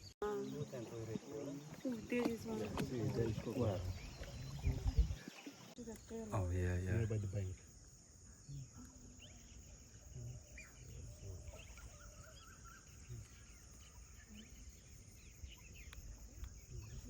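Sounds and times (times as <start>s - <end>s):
bird calls and chirps: 0.0s - 6.2s, 8.1s - 17.0s
high insect hum: 0.0s - 17.0s.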